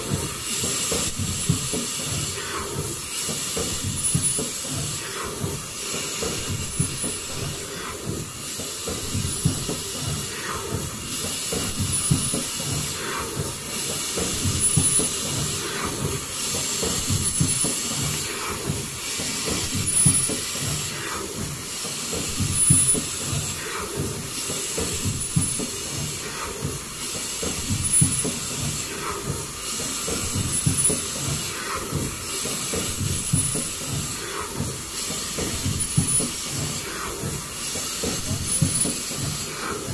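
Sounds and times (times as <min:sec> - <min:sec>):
steady mechanical din: 0:00.0 - 0:39.9.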